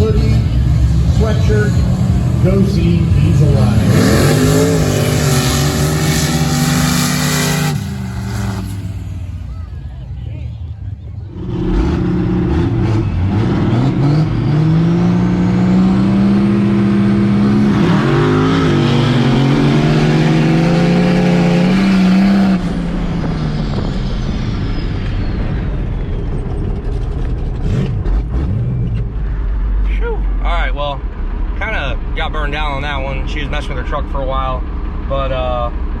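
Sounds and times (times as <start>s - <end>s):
diesel truck engine revving: 0.0s - 34.4s.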